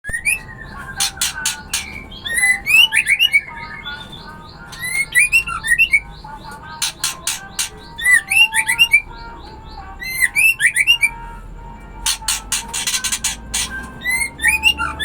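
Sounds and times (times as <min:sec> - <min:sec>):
songbird chirping and whistling: 0:00.0 - 0:15.0.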